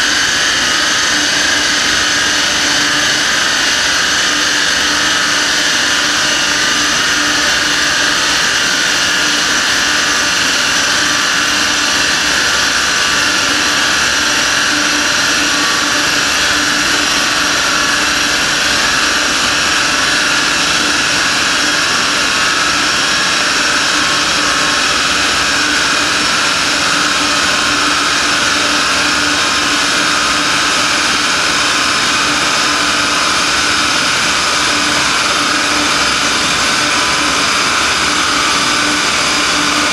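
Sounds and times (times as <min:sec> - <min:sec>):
large cooling fan whirring: 0:00.0 - 0:39.9.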